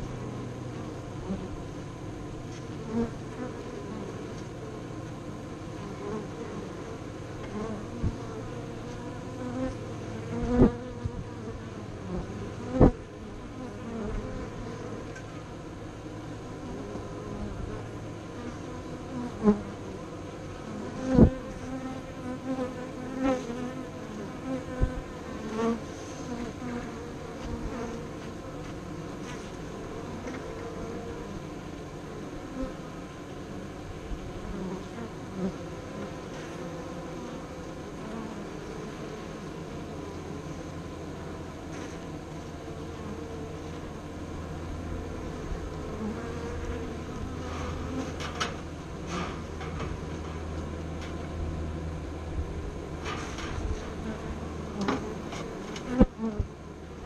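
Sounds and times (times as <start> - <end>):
honey bees buzzing: 0.0 - 57.0.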